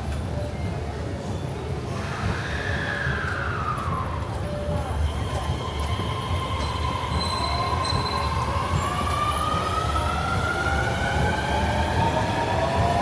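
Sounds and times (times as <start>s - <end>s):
low rumble of train cars: 0.0s - 13.0s.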